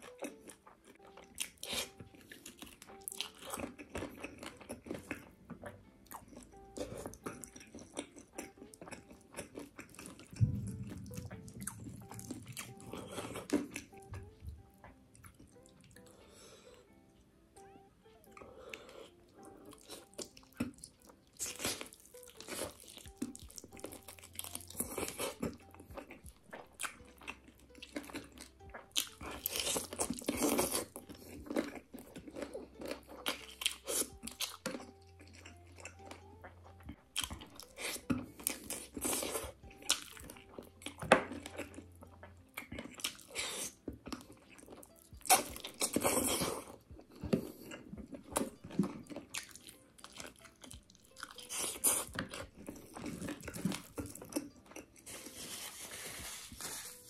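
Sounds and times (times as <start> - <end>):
crunching on cartilage and bone: 0.0 - 16.1, 19.0 - 57.0
wet chewing: 0.0 - 17.0, 18.2 - 57.0.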